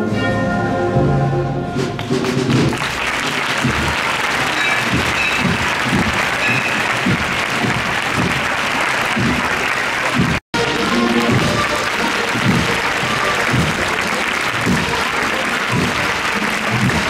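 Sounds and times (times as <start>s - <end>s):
crowd applauding: 2.0s - 17.0s.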